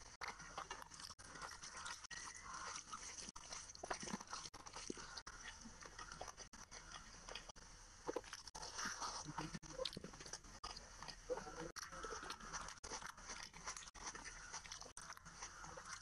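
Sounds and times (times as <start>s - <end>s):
fingers squishing food: 0.0s - 16.0s
wet chewing: 0.0s - 16.0s.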